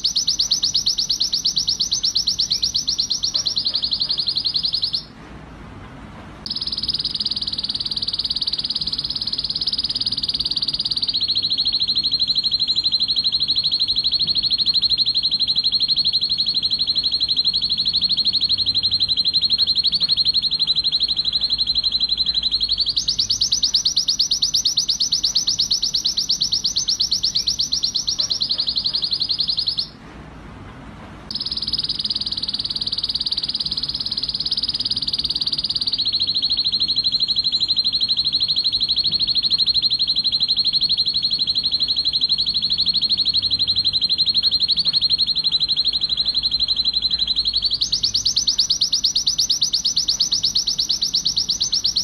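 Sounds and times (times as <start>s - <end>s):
canary singing trills: 0.0s - 5.1s, 6.5s - 30.0s, 31.3s - 52.0s.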